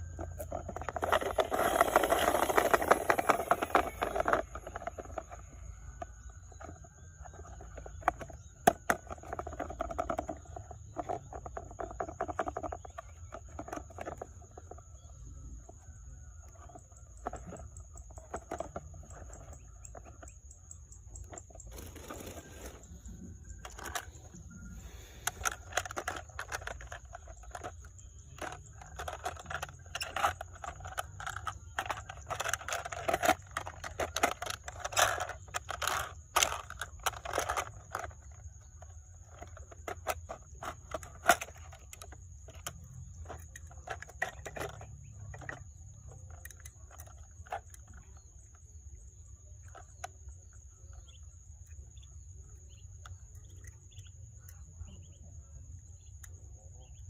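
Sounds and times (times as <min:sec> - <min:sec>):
toy cars clicking and clattering: 0:00.0 - 0:15.1, 0:15.7 - 0:48.7.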